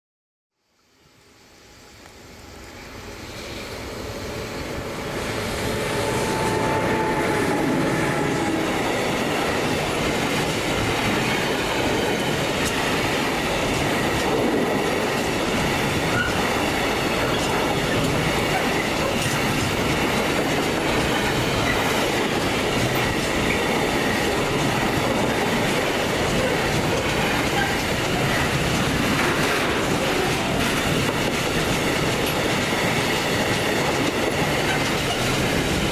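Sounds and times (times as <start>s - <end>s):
train wheels on rails: 1.1s - 35.9s.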